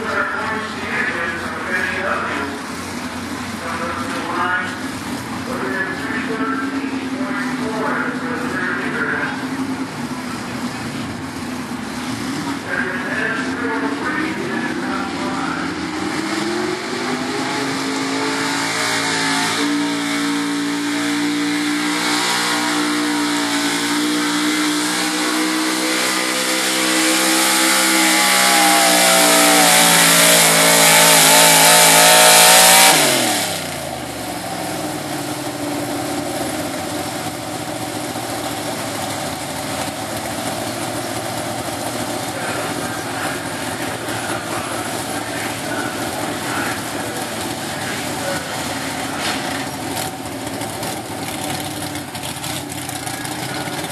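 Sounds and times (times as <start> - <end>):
truck engine at full throttle: 0.0 - 53.9.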